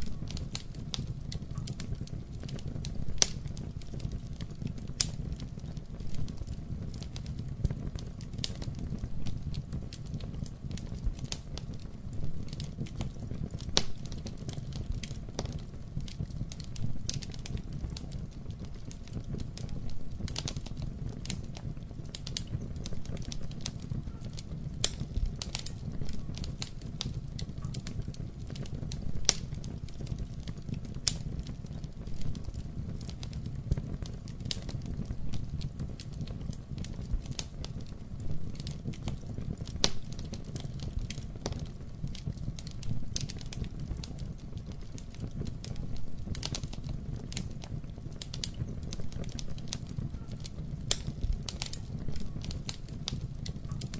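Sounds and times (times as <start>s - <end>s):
campfire wood crackling and popping: 0.0s - 53.9s
low steady fire rumble: 0.0s - 53.9s.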